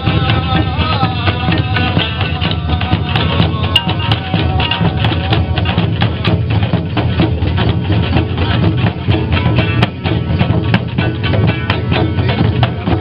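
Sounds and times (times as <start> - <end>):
frame drums beaten: 0.0 - 13.0
plucked lute: 0.0 - 13.0
strapped-on drum: 0.0 - 13.0.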